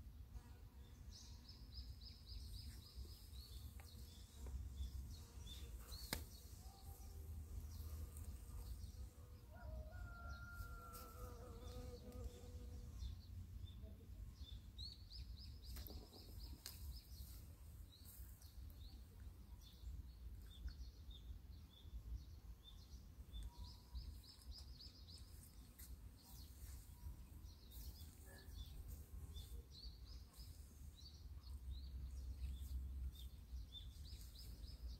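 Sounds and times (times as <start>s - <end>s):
small birds chirping: 0.8s - 34.9s.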